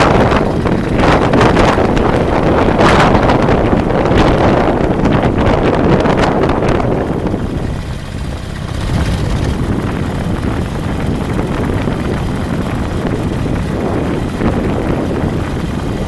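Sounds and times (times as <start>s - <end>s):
road noise rumble: 0.0s - 16.0s
wind buffeting microphone: 0.0s - 16.0s.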